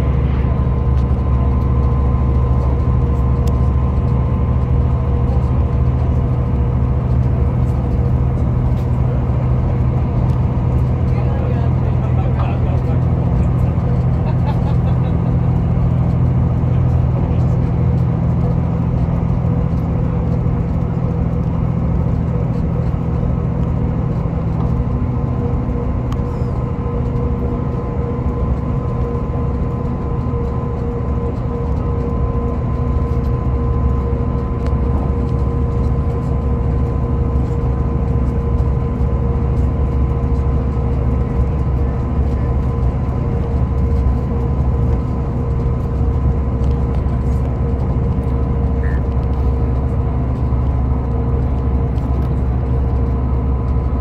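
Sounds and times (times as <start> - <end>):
diesel engine drone: 0.0 - 54.0
thin steady whine: 0.0 - 54.0
train wheels rumbling on rails: 0.0 - 54.0.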